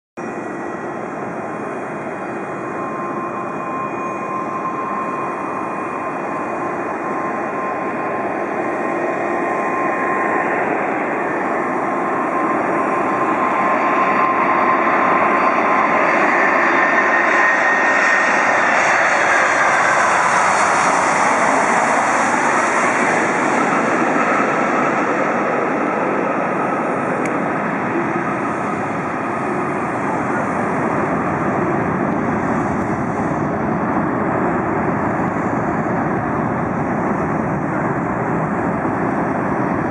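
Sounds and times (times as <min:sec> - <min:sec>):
jet engine whine: 0:00.2 - 0:39.9.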